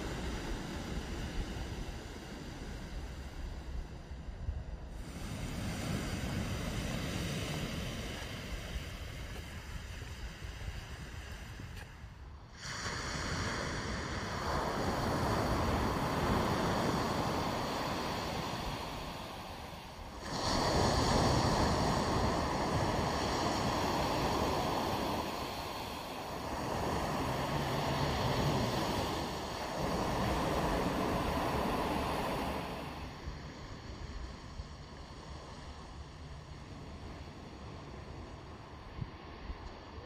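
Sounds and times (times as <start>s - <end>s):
surf washing onto beach: 5.0s - 12.0s, 12.6s - 40.0s.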